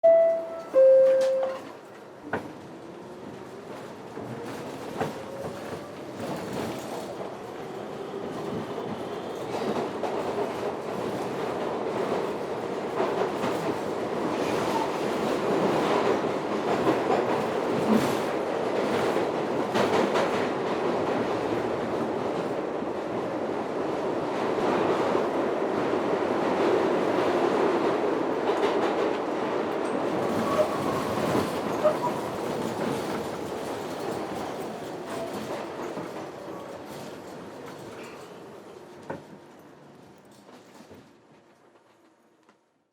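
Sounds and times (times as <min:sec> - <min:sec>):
train rumble and wheel clatter: 0:00.0 - 0:42.7.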